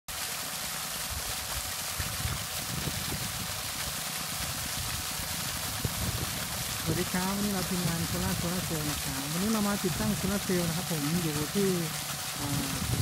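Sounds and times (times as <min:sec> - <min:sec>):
water gushing into a pond: 0:00.1 - 0:13.0.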